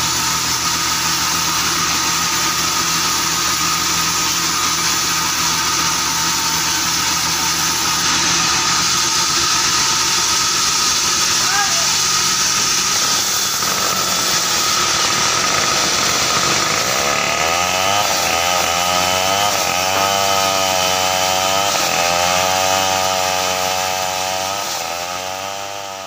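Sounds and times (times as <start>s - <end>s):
band saw cutting timber: 0.0s - 26.0s.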